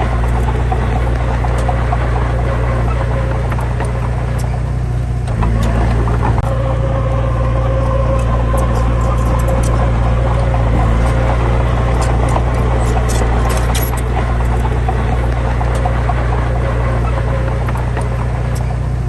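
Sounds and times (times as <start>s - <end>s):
diesel engine droning: 0.0s - 19.0s
faint clicks and rattles: 0.0s - 19.0s.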